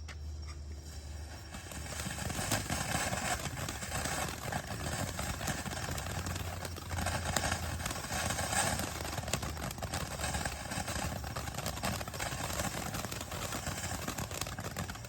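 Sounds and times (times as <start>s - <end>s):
dense crackling: 0.0s - 15.0s
firework fountain hissing: 0.0s - 15.0s.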